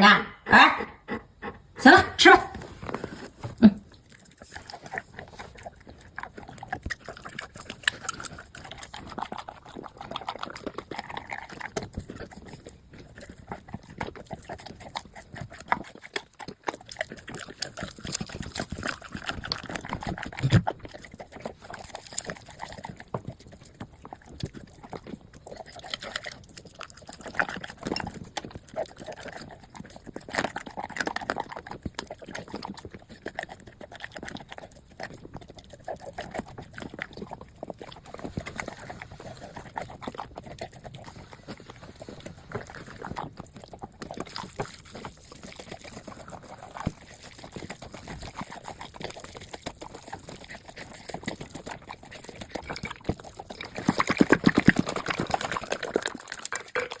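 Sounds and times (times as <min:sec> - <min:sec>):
dog wet chewing and smacking: 0:01.0 - 0:57.0.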